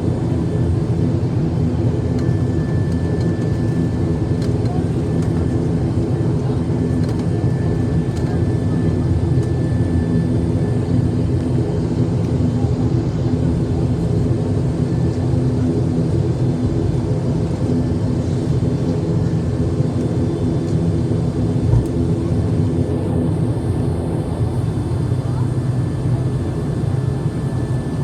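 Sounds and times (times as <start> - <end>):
turboprop engines droning: 0.0 - 28.0.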